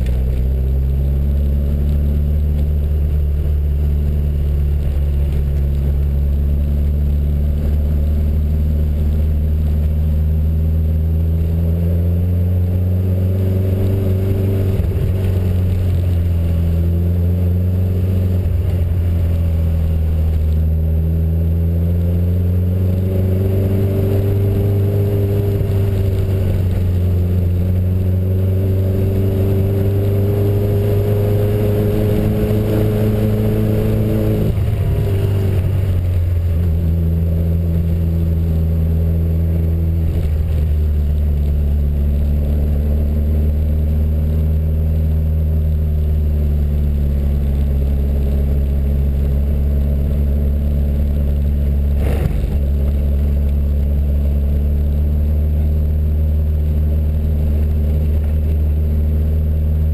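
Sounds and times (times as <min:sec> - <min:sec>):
car engine pulling at low speed: 0:00.0 - 0:59.9.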